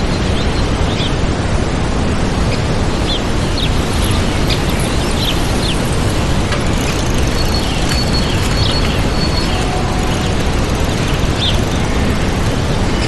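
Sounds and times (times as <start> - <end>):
birds chirping: 2.4 - 13.0.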